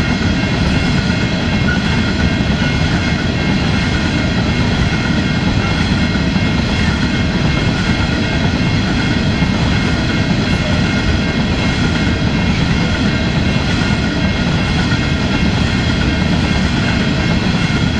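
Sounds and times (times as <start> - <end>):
wagon wheels rumbling on rails: 0.0 - 17.9.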